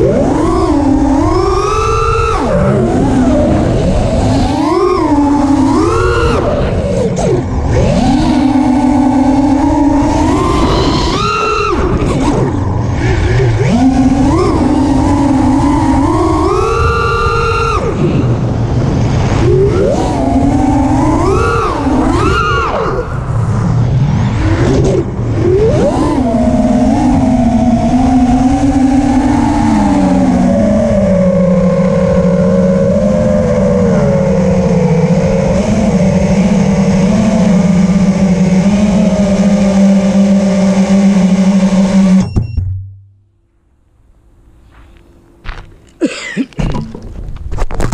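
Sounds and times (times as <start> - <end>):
quadcopter motors buzzing whine: 0.0 - 42.5.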